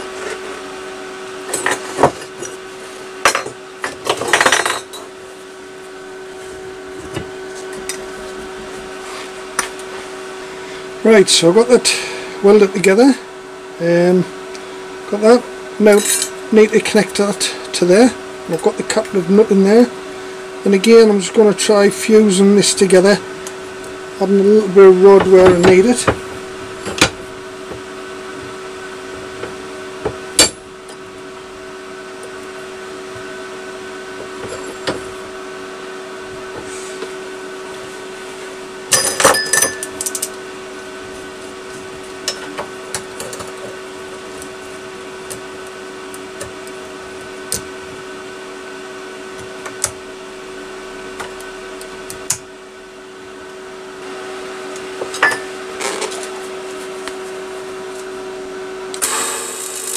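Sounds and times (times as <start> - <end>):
welder electrical hum: 0.0 - 59.9.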